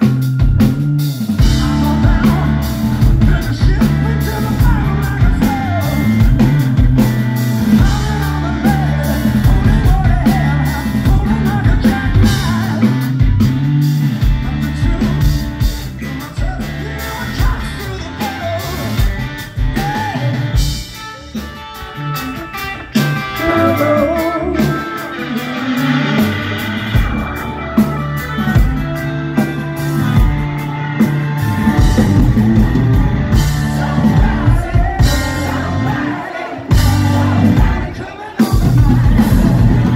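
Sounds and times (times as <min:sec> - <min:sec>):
bass guitar: 0:00.0 - 0:39.9
drum kit: 0:00.0 - 0:39.9
electric guitar: 0:00.0 - 0:39.9
person singing: 0:01.4 - 0:06.7, 0:07.7 - 0:13.5, 0:14.2 - 0:28.7, 0:29.3 - 0:39.9.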